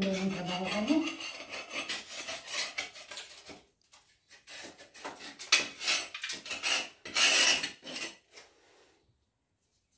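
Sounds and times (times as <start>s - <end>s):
scraper scraping tiled wall: 0.0s - 9.1s.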